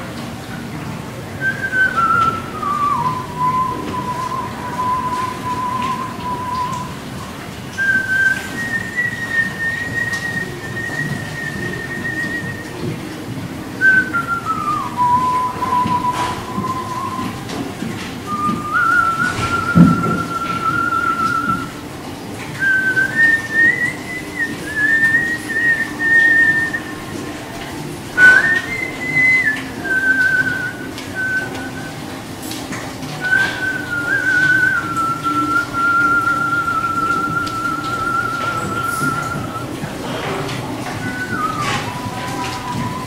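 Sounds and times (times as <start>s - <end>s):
man whistling: 1.3s - 13.1s, 13.8s - 21.8s, 22.6s - 27.6s, 28.2s - 32.6s, 33.2s - 43.0s.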